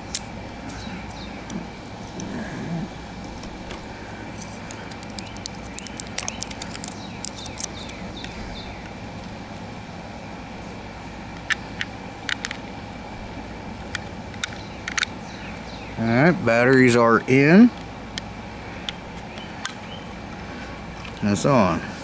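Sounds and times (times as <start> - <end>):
air conditioner hum: 0.0 - 22.0.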